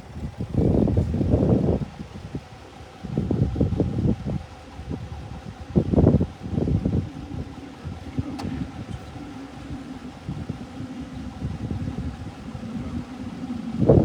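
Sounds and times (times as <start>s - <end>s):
low mechanical hum: 0.0s - 14.0s
wind buffeting microphone: 0.0s - 14.0s.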